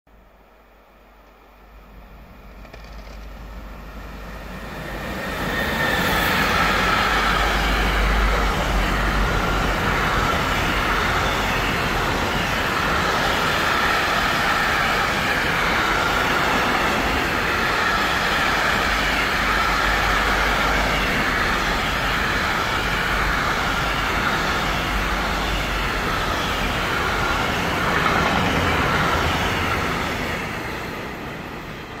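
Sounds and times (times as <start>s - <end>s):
freight train wheels rumbling on rails: 1.3s - 32.0s.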